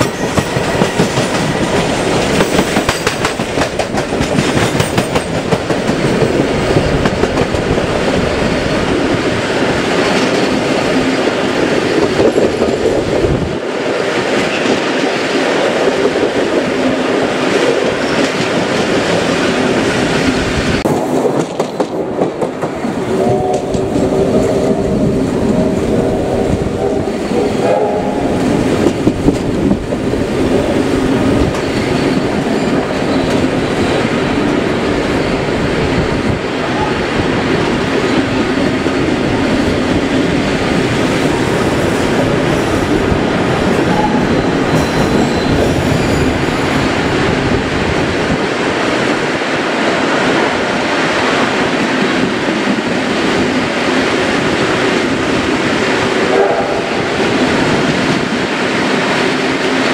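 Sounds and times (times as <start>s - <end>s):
train rolling on rails: 0.0s - 59.9s.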